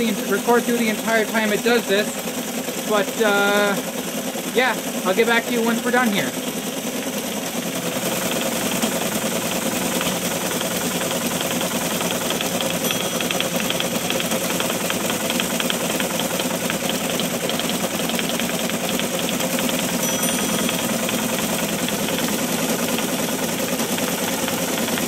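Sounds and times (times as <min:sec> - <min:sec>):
teletype rapid mechanical clicking: 0:00.0 - 0:25.0.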